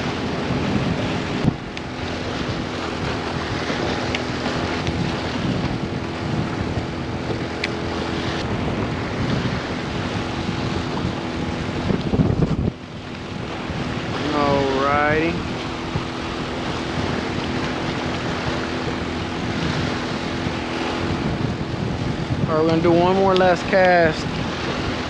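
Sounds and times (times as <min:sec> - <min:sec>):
water on the shore: 0:00.0 - 0:25.0
wind: 0:00.0 - 0:25.0.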